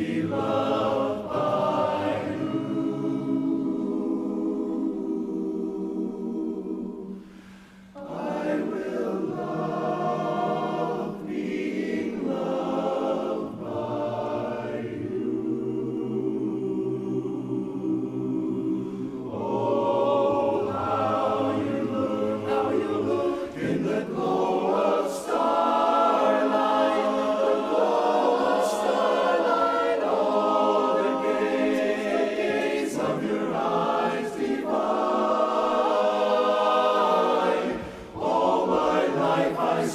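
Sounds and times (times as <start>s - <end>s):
chorus singing a cappella: 0.0s - 39.9s.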